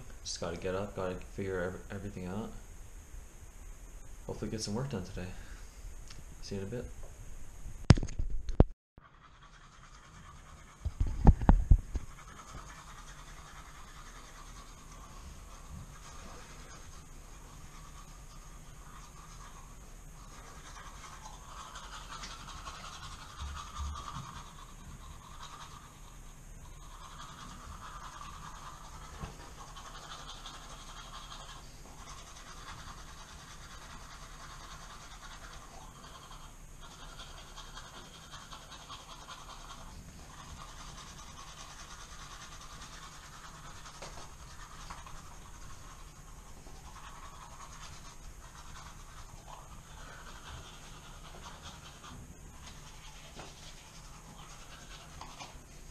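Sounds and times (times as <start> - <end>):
toothbrush scrubbing teeth: 9.0 - 55.9.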